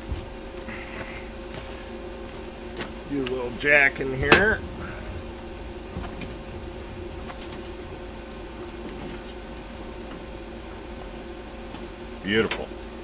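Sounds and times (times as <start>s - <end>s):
background hiss: 0.0s - 13.0s
high-pitched insect drone: 0.0s - 13.0s.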